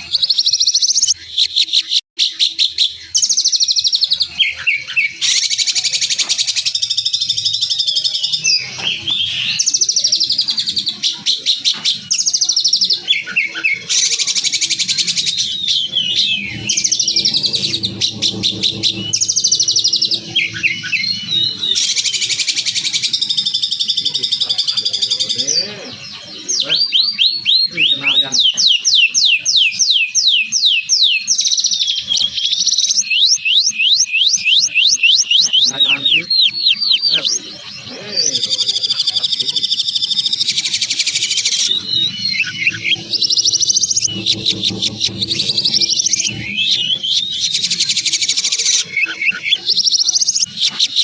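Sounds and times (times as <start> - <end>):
songbird trills and rattles: 0.0 - 51.0.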